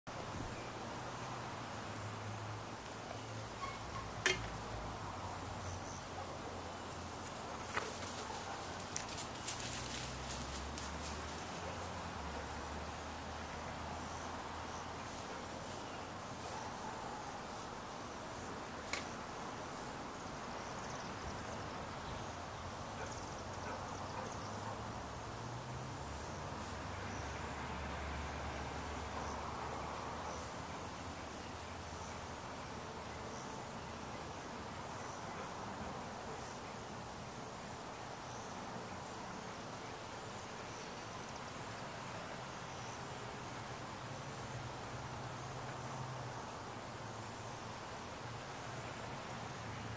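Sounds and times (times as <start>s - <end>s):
distant background noise: 0.1s - 49.9s
faint insect chirping: 0.1s - 49.9s
steady hiss and low hum: 0.1s - 49.9s.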